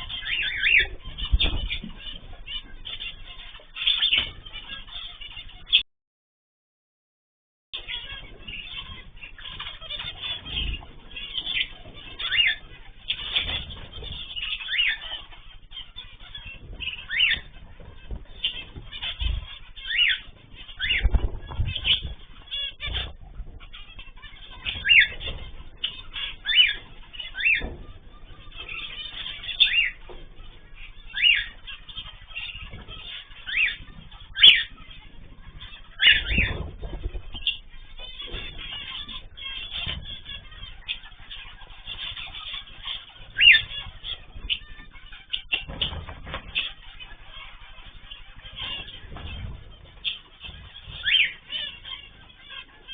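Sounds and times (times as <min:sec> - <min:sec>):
pet birds calling: 0:00.0 - 0:05.8, 0:07.8 - 0:52.9.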